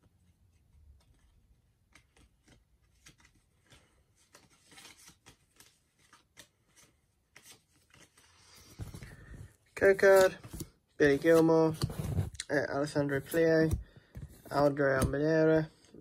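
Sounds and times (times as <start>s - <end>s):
trading cards being handled: 0.4s - 15.7s.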